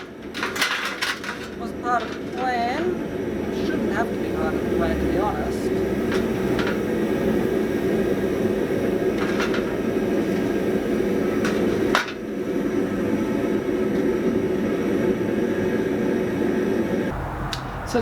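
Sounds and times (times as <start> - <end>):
forge roaring: 0.0 - 18.0.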